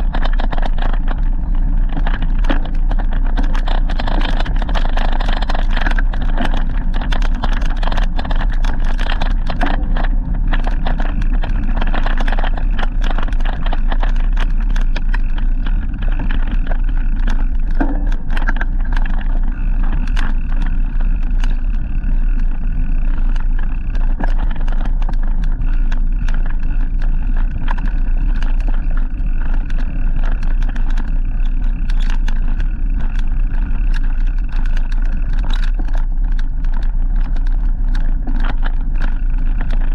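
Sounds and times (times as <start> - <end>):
small rattles and knocks: 0.0 - 39.9
wind and road noise from bicycle: 0.0 - 39.9.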